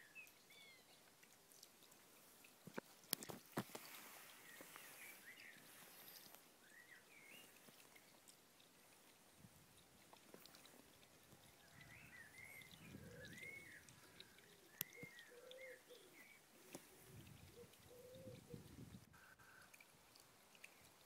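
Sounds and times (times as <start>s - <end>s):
quiet outdoor ambience: 0.0s - 21.0s.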